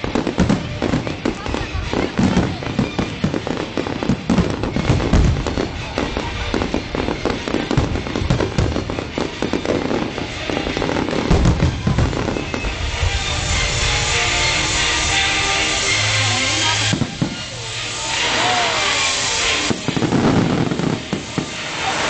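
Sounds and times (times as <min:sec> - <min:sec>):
deep fireworks booms: 0:00.0 - 0:22.0
fireworks bangs and crackling: 0:00.0 - 0:22.0.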